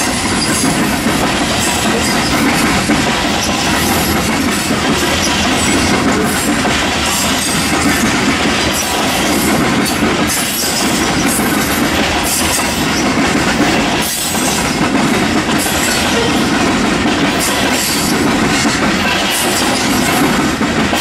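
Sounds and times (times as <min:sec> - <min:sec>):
freight train rumbling past: 0:00.0 - 0:21.0
steel wheels clattering on rails: 0:00.0 - 0:21.0.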